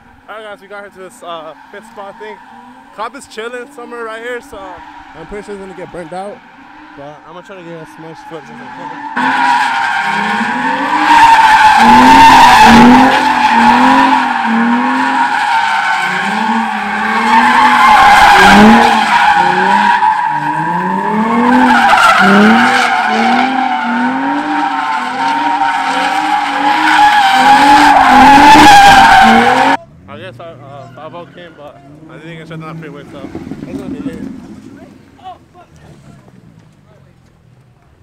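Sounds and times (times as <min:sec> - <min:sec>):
tires screeching: 0:00.0 - 0:37.9
car engine revving: 0:00.6 - 0:37.6.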